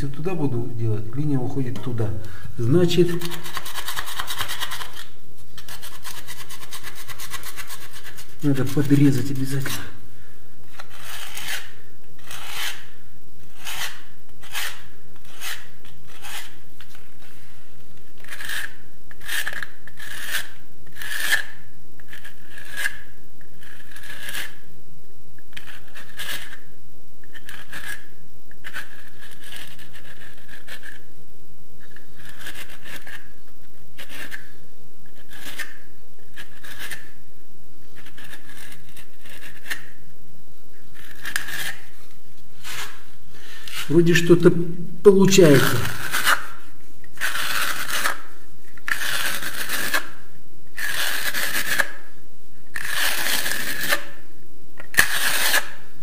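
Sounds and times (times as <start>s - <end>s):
knife scraping plaster: 1.8s - 10.0s, 10.7s - 17.0s, 18.2s - 24.6s, 25.5s - 26.7s, 27.3s - 31.1s, 31.8s - 33.4s, 34.0s - 37.2s, 37.9s - 40.0s, 40.9s - 44.5s, 45.3s - 52.1s, 52.7s - 54.2s, 54.8s - 55.8s.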